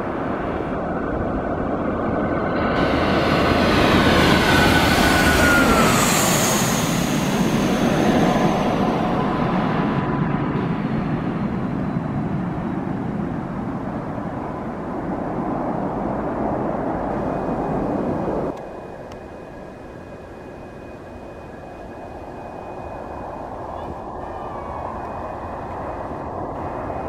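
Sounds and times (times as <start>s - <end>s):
jet engine high whine: 0.0s - 27.0s
jet engines roaring: 0.0s - 27.0s.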